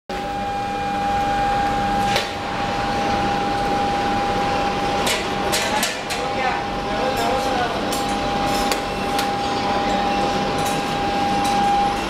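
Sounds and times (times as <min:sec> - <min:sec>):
high whine: 0:00.1 - 0:12.0
machinery hum: 0:00.1 - 0:12.0.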